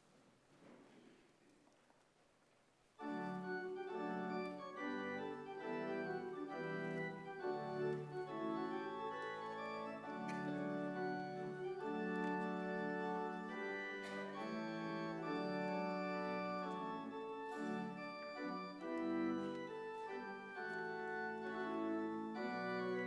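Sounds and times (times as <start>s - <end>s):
organ chords: 3.0s - 23.0s.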